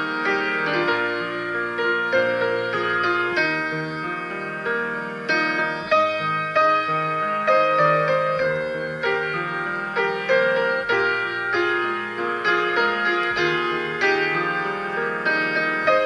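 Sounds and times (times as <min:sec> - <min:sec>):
piano notes over sustained chords: 0:00.0 - 0:16.0.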